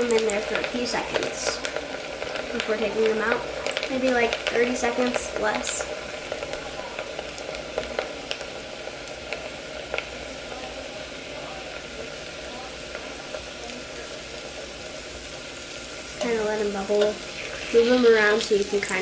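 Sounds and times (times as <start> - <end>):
fries sizzling in oil: 0.0 - 19.0.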